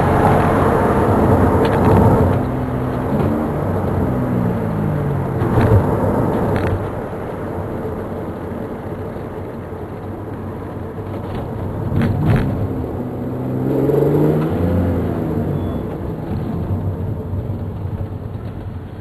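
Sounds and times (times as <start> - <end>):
car engine and road drone: 0.0 - 19.0.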